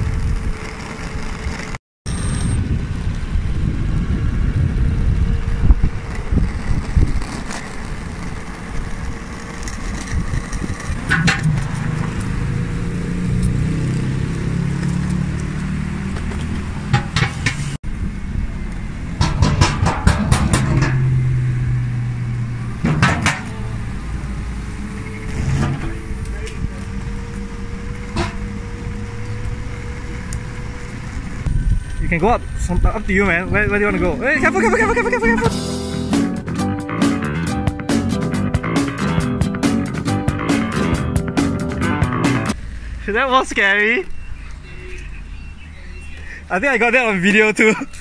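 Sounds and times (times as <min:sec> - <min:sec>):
skateboard wheels rumbling on pavement: 0:00.0 - 0:01.8, 0:02.6 - 0:17.8, 0:19.0 - 0:31.6, 0:33.0 - 0:44.0.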